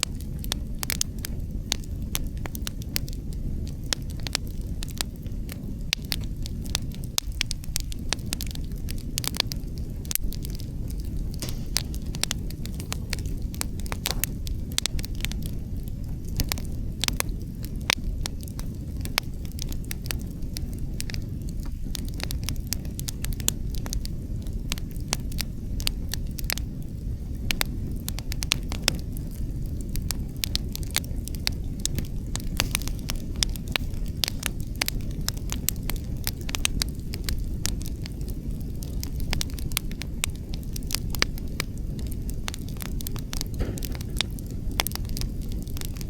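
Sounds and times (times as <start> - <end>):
low rumble of wind: 0.0 - 46.0
wood fire crackling and popping: 0.0 - 46.0.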